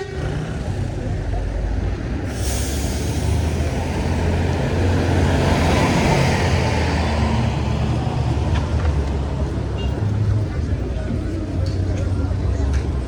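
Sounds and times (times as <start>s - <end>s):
traffic passing: 0.0s - 13.0s
vehicle engine humming: 0.0s - 13.0s.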